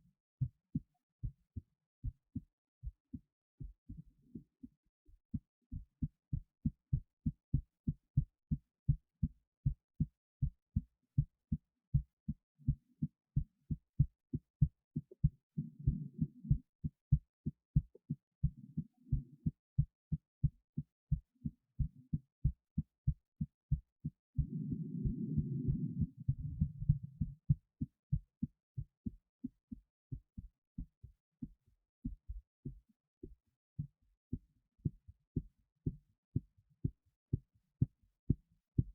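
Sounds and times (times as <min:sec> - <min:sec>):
heartbeat thuds: 0:00.4 - 0:38.9.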